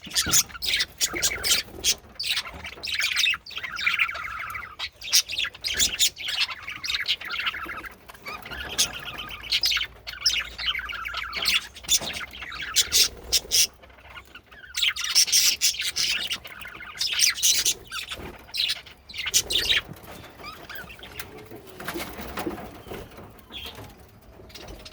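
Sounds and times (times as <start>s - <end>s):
sharp bird chirps and squawks: 0.0s - 21.3s
budgerigars chattering and warbling: 0.0s - 24.9s.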